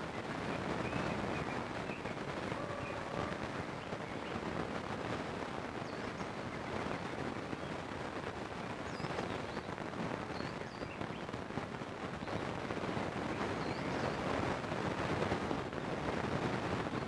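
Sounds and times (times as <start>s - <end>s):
rain-like crackling noise: 0.0s - 13.6s, 14.2s - 17.0s.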